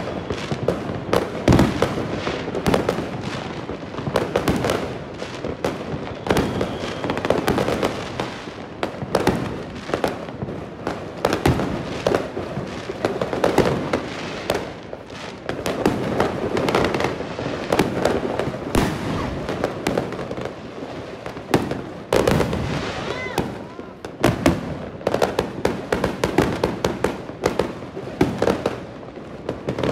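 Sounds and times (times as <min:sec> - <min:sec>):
fireworks banging and crackling: 0:00.0 - 0:29.9.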